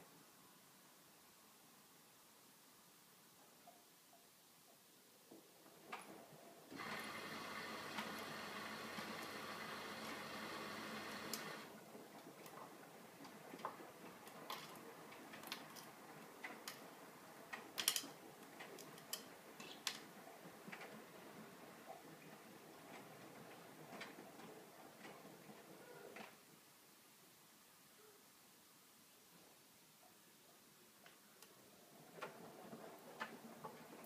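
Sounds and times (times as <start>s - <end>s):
faint steady background: 0.0s - 34.0s
faint steady hiss: 0.0s - 34.0s.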